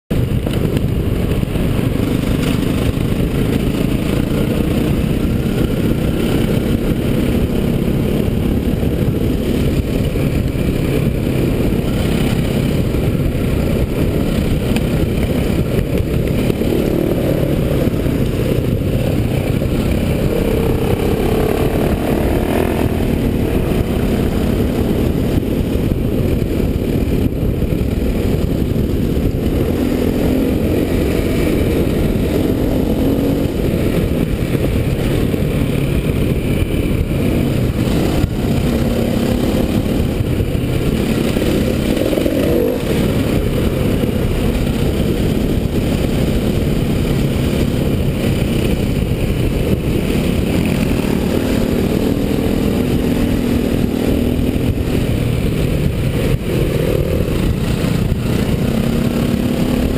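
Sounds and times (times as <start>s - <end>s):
dirt bike engine revving: 2.0s - 26.4s, 28.2s - 59.9s.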